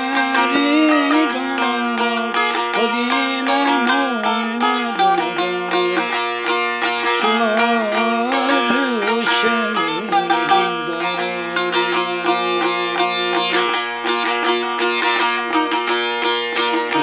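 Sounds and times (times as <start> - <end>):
plucked long-necked lute folk tune: 0.0 - 17.0.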